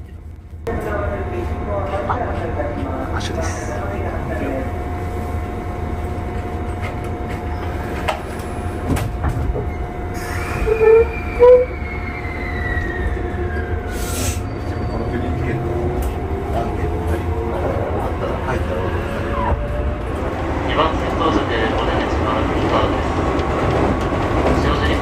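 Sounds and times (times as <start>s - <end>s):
train rumble: 0.0s - 25.0s
rising train motor whine: 0.7s - 24.9s.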